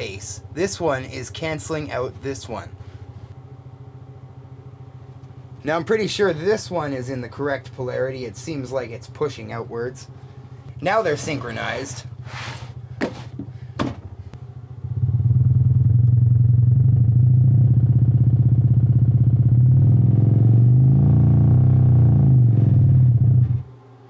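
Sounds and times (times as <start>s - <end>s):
subwoofers playing buzzy low tone: 0.0s - 23.8s.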